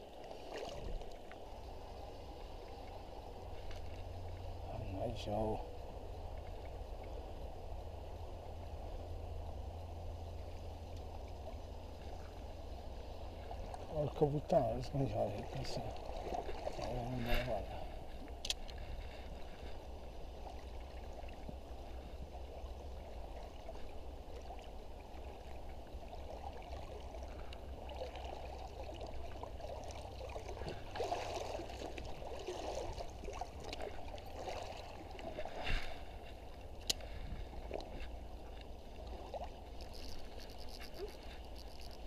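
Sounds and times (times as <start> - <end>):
stream water trickling: 0.0 - 42.0.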